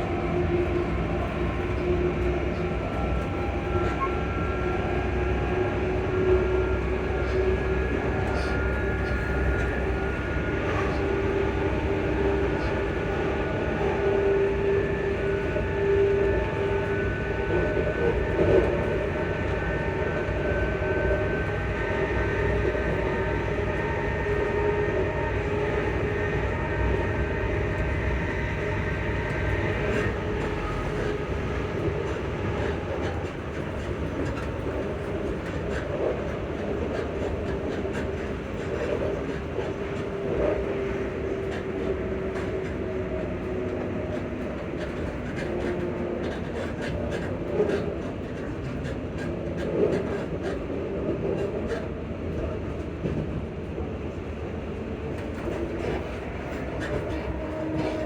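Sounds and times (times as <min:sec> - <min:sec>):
wheels rumbling on track: 0:00.0 - 0:58.0.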